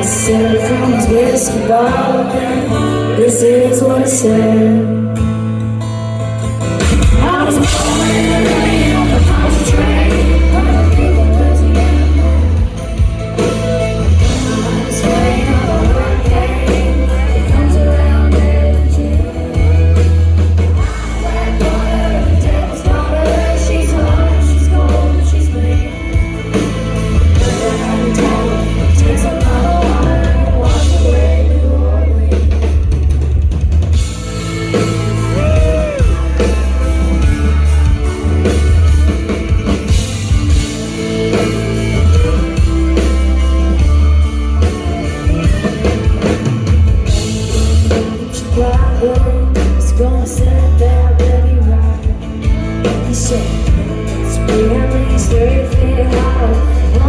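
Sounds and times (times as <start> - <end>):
person singing: 0.0 - 5.2, 6.9 - 33.1, 34.7 - 57.0
live country band: 0.0 - 57.0.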